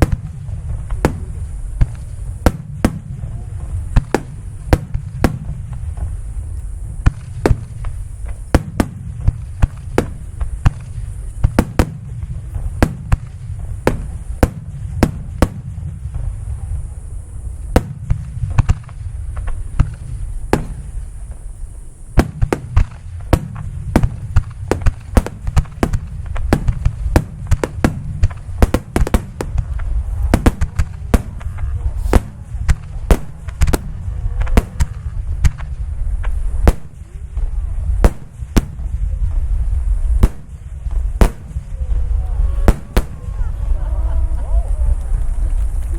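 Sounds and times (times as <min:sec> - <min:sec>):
fireworks cracking: 0:00.0 - 0:45.9
low rumble: 0:00.0 - 0:45.9.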